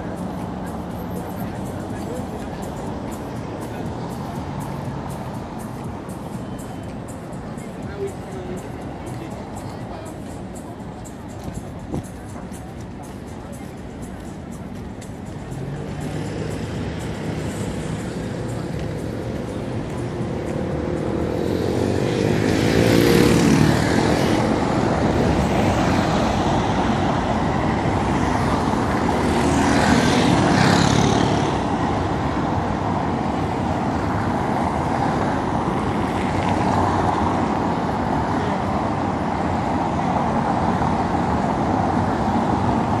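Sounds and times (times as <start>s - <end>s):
cars driving over cobblestones: 0.0s - 43.0s.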